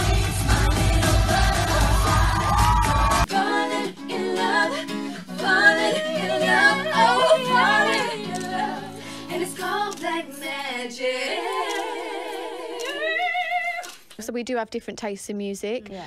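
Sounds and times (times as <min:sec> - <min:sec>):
women singing in harmony: 0:00.0 - 0:14.1.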